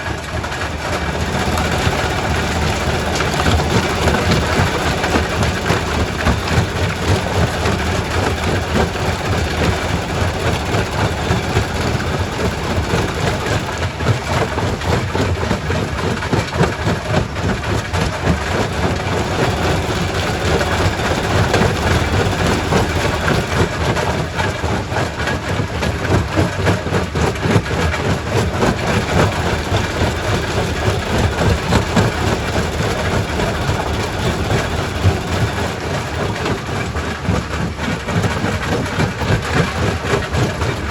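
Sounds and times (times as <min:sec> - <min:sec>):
rock crusher machine drone: 0:00.0 - 0:40.9.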